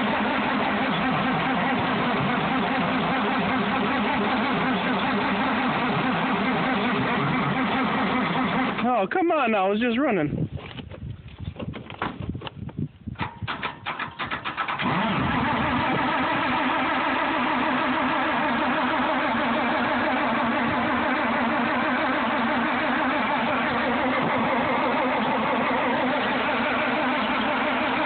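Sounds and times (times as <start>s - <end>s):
tractor engine cranking: 0.0s - 9.2s, 10.6s - 28.0s
tractor engine running: 0.0s - 9.2s, 11.6s - 28.0s.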